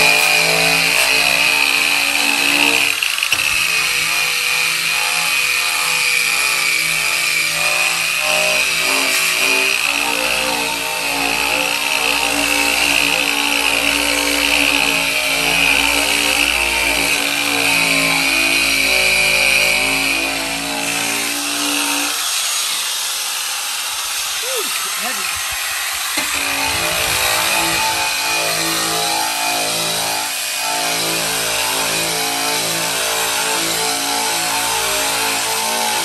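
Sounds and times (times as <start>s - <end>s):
air sander whining on metal: 0.0s - 36.0s.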